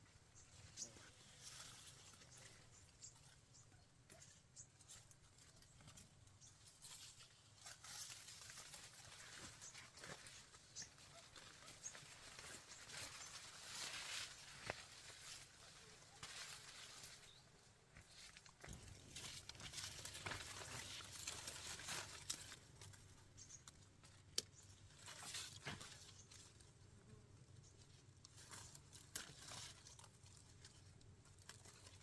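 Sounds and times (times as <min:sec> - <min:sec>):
dry stalks rustling: 0:00.0 - 0:32.0.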